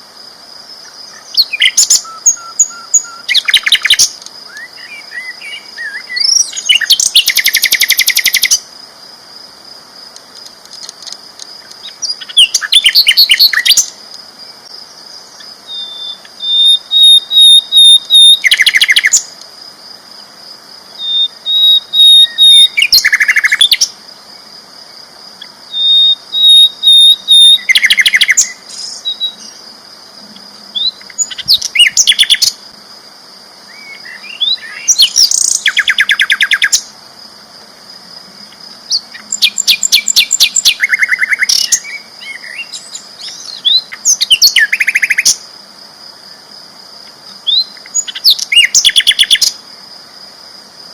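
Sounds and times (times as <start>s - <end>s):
flycatcher singing trilling phrases: 0.8s - 8.7s, 10.4s - 19.4s, 20.2s - 32.8s, 33.6s - 37.0s, 38.0s - 45.5s, 47.0s - 49.6s.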